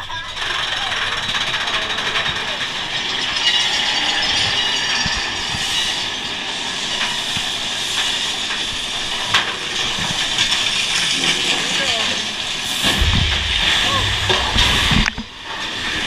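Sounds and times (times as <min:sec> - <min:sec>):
wheel and track clicks: 0:00.0 - 0:13.4
roller coaster rushing hiss: 0:00.4 - 0:16.0.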